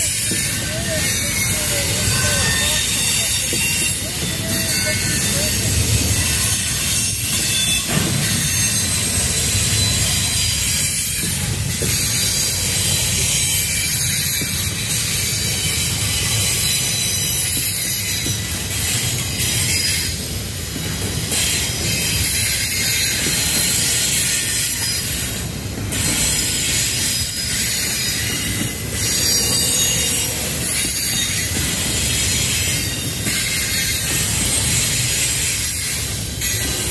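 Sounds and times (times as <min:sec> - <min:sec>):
metallic wheel squeal: 0:00.0 - 0:36.9
steel wheels rumbling on rail: 0:00.0 - 0:36.9.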